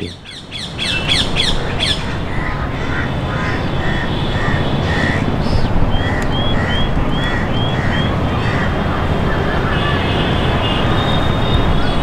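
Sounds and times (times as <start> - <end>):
bird calls: 0.0 - 10.0
birds squawking: 0.0 - 10.1.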